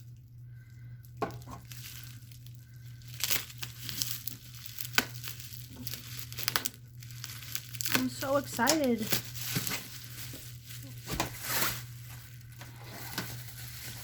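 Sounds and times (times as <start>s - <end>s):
plastic shrink wrap crinkling: 0.0s - 14.0s.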